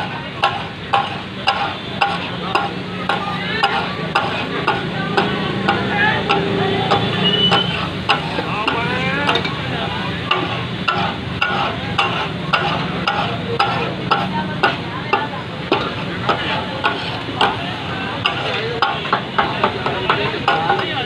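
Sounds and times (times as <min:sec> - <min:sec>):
food sizzling: 0:00.0 - 0:21.0
metal spatulas clacking on griddle: 0:00.0 - 0:21.0.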